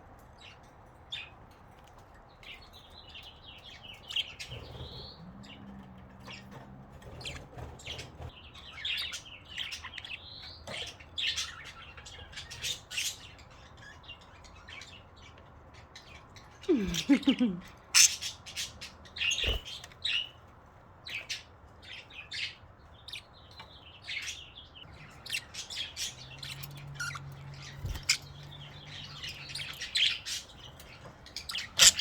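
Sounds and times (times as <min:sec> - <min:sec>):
budgerigars chirping and chattering: 0:00.4 - 0:20.4, 0:21.1 - 0:32.0.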